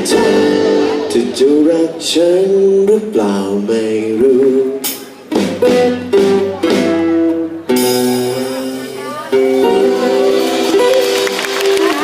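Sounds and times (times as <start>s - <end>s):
plucked string chords ringing: 0.0s - 3.6s, 4.2s - 11.3s.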